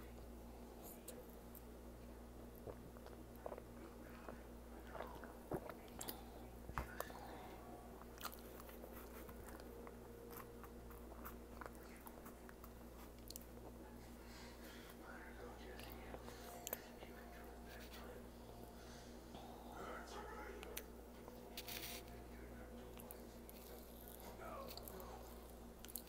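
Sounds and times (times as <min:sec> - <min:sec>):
low hum: 0:00.0 - 0:26.0
person chewing food: 0:00.2 - 0:18.0, 0:22.8 - 0:26.0.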